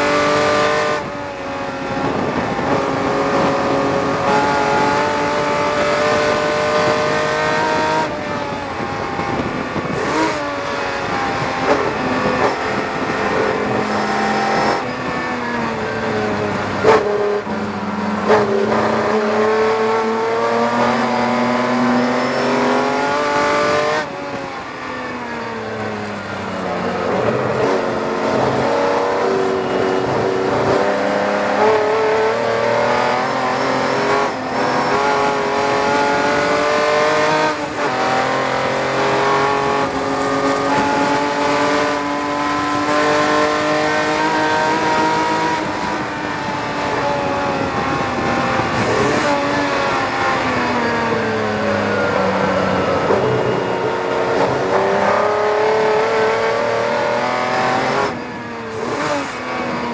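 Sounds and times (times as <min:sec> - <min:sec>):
racing engine at full throttle: 0:00.0 - 0:59.9.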